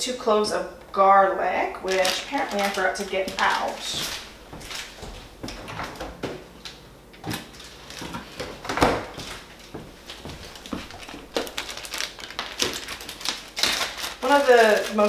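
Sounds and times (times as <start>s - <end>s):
packaging clicks and rustles: 1.8s - 6.0s, 6.6s - 15.0s.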